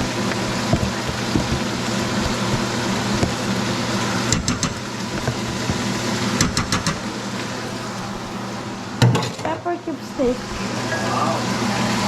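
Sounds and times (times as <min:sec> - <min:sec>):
oil sizzling: 0:00.0 - 0:10.9
steady low hum: 0:00.0 - 0:11.2.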